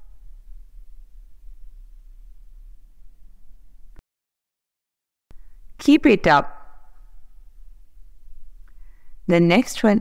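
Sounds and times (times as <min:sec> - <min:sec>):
faint low hum: 0:00.0 - 0:04.0, 0:05.3 - 0:10.0.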